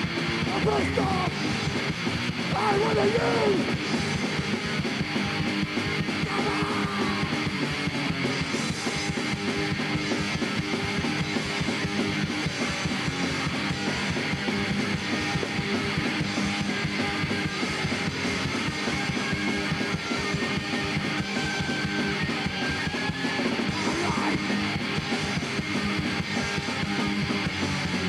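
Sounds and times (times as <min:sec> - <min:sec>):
punk rock band playing: 0:00.0 - 0:28.0.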